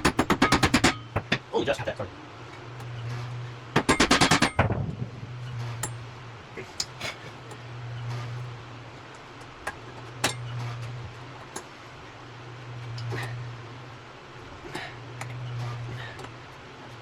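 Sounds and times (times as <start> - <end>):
low hum: 0.9 - 17.0.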